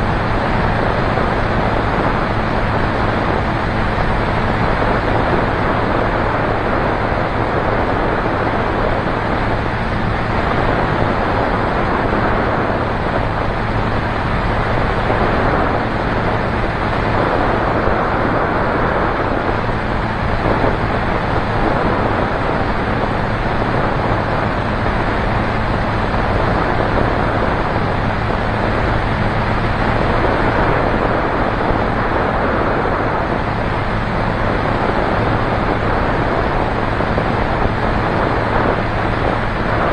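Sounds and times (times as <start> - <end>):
propeller aircraft engine drone: 0.0 - 39.9
wind on microphone: 0.0 - 39.9.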